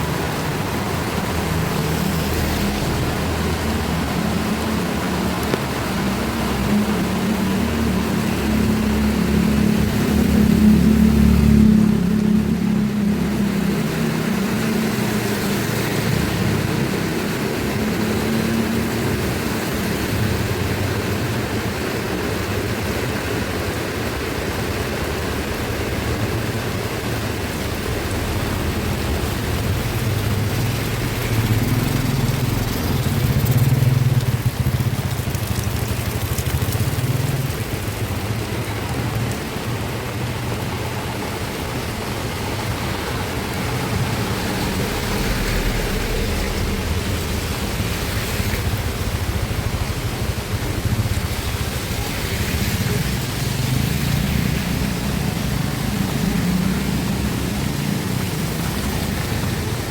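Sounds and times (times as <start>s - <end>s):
heavy rain falling: 0.0s - 59.9s
vehicle engine humming: 0.0s - 59.9s.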